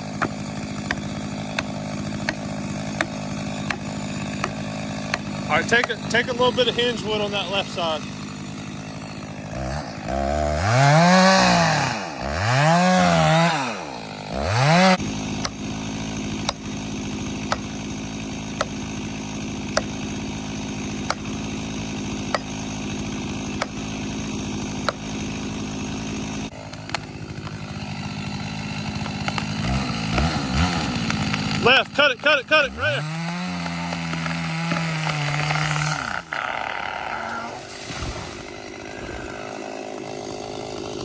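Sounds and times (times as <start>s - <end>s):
chainsaw revving and running: 0.0s - 41.0s.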